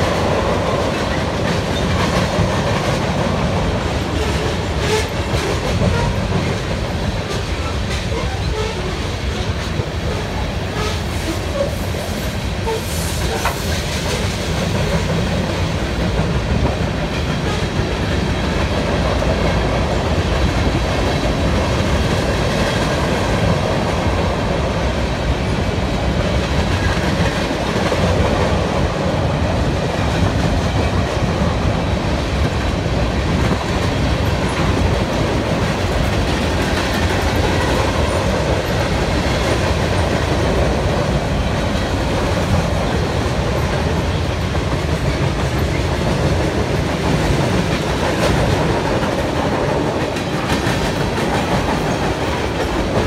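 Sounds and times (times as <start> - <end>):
train wheels on rails: 0.0 - 53.0.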